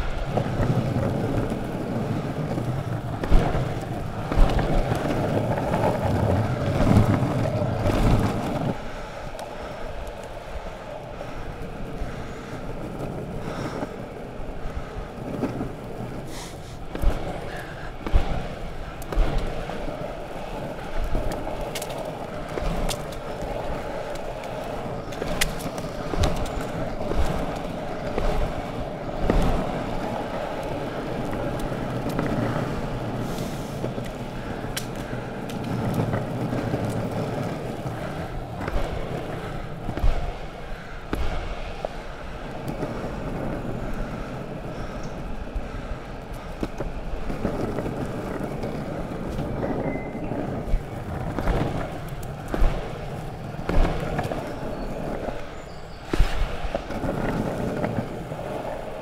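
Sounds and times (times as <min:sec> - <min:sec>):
longboard wheels rolling on asphalt: 0:00.0 - 0:59.0.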